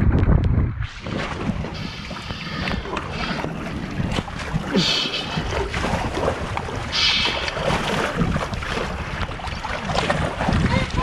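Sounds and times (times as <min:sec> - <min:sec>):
wind on microphone: 0:00.0 - 0:11.0
water sloshing and splashing: 0:00.8 - 0:11.0.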